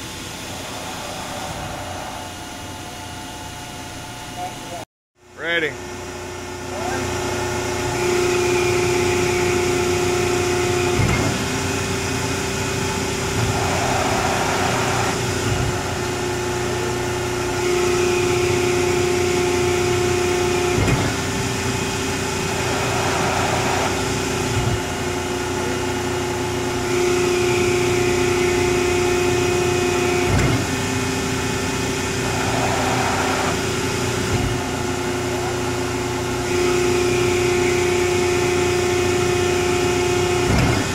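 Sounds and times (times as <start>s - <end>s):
hydraulic pump humming: 0.0s - 40.9s.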